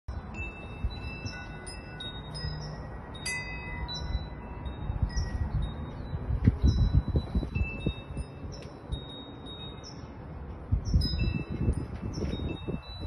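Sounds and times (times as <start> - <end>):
chimes ringing: 0.1 - 10.3, 10.9 - 13.0.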